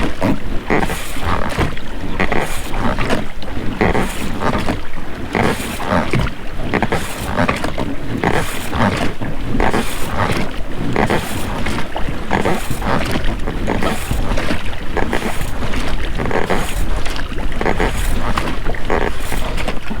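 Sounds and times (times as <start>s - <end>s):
oar blades splashing in water: 0.0s - 20.0s
rubber rowlocks creaking: 0.0s - 20.0s.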